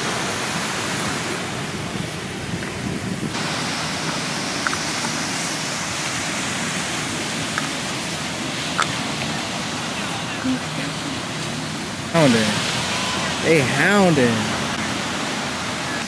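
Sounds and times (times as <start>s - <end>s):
ocean surf: 0.0s - 16.0s
wind: 0.0s - 16.0s.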